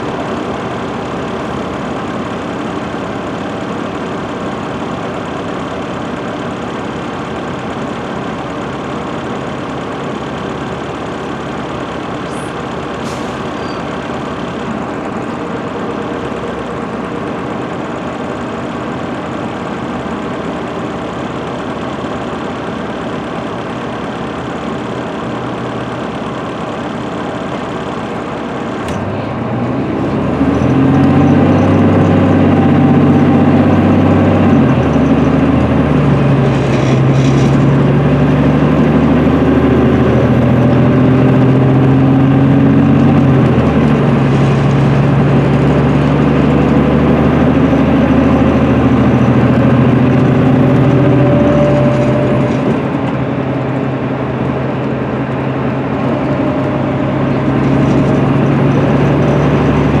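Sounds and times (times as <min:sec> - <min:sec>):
bus diesel engine accelerating: 0:00.0 - 1:00.0.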